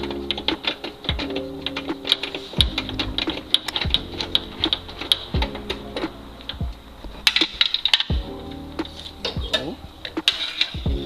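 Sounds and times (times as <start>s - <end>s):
looping background music: 0.0s - 11.0s.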